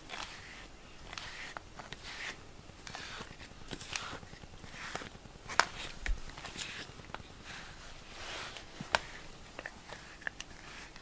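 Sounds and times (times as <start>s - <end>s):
brush swishing through cat fur: 0.0s - 11.0s.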